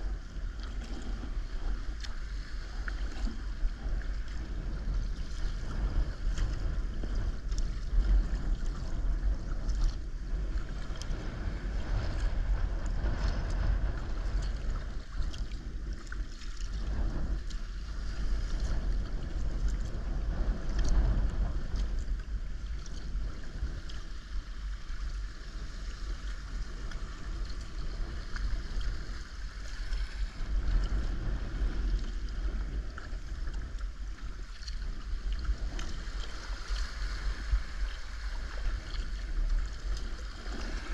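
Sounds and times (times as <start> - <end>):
water lapping against kayak hull: 0.0 - 40.9
wind buffeting microphone: 0.0 - 40.9.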